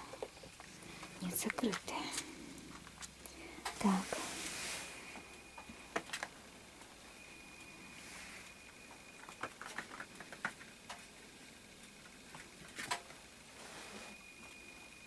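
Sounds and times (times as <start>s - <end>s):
faint steady high tone: 0.0s - 12.5s, 13.4s - 15.0s.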